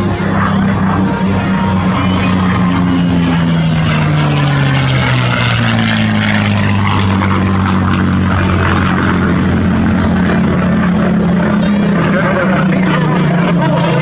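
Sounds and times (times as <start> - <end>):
propeller aircraft engine drone: 0.0 - 14.0.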